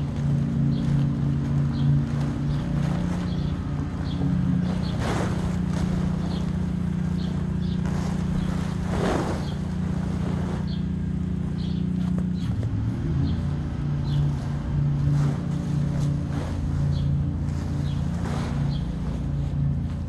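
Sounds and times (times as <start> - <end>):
steady low hum: 0.0 - 20.0
tent fabric rustling: 0.0 - 20.0.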